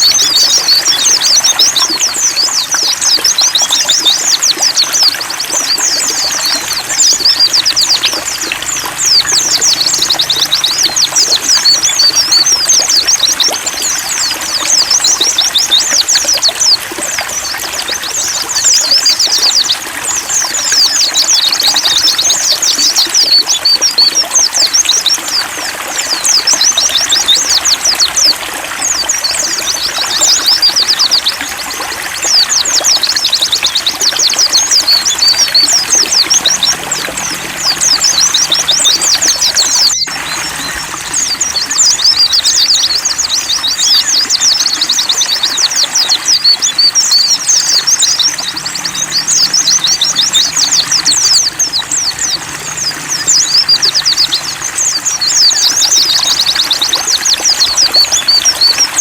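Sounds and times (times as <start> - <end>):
high-pitched bird twittering: 0.0 - 59.0
water trickling: 0.0 - 59.0.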